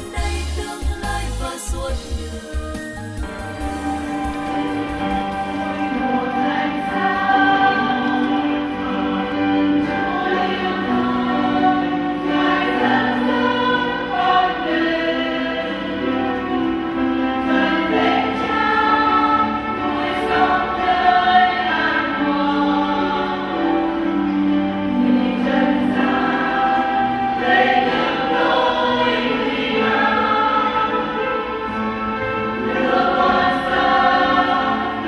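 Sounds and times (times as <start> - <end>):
choir singing a hymn: 0.0 - 35.0.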